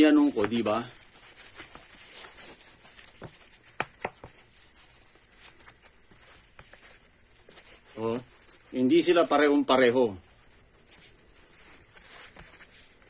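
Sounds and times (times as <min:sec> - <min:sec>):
fabric cap rustling: 0:00.0 - 0:13.0.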